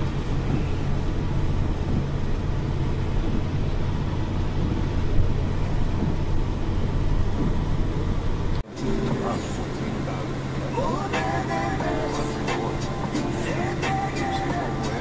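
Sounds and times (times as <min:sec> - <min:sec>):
minibus engine and tyre rumble: 0:00.0 - 0:15.0.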